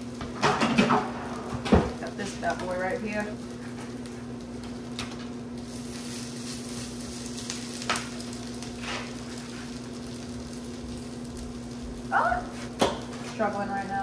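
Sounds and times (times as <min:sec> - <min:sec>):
food sizzling in pans: 0:00.0 - 0:14.0
steady low hum: 0:00.0 - 0:14.0.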